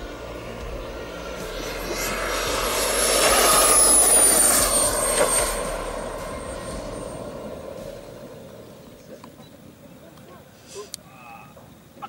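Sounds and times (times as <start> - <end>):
model jet turbine whining: 0.0 - 9.8.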